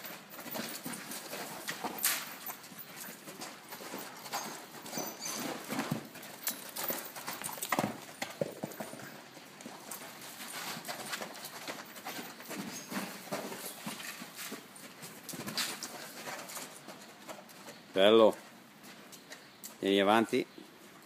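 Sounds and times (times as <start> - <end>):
horse hoofbeats on sand: 0.0 - 20.2.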